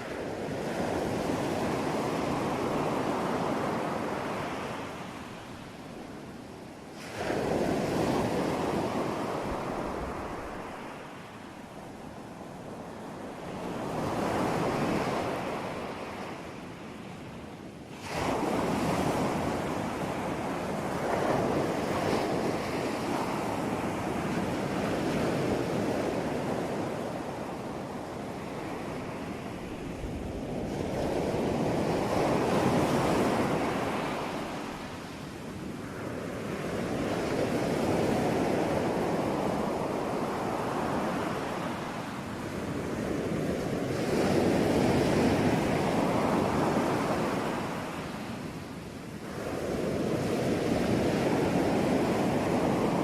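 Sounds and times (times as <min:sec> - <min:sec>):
waves breaking and washing in: 0:00.0 - 0:53.0.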